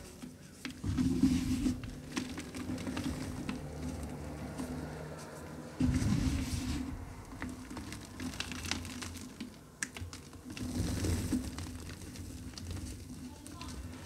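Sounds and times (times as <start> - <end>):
chalk crunching and crackling: 0.0 - 14.0.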